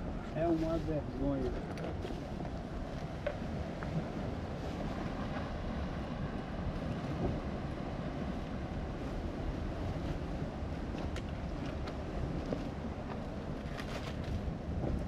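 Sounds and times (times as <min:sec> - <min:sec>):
surf on rocky shore: 0:00.0 - 0:15.0
wind buffeting microphone: 0:00.0 - 0:15.0.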